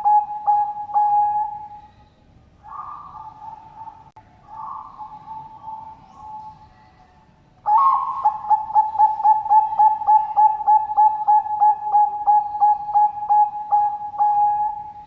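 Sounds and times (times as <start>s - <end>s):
dove cooing: 0.0s - 1.9s, 2.6s - 6.6s, 7.7s - 15.0s.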